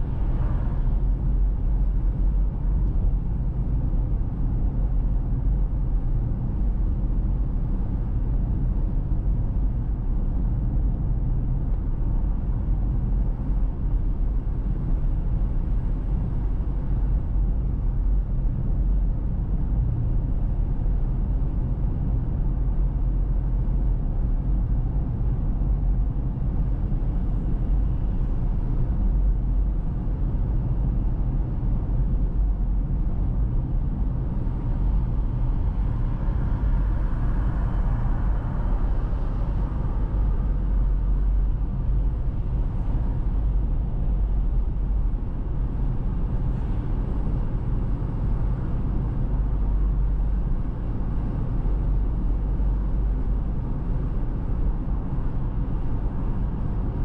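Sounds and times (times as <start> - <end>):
road and wind noise rumble: 0.0 - 57.0.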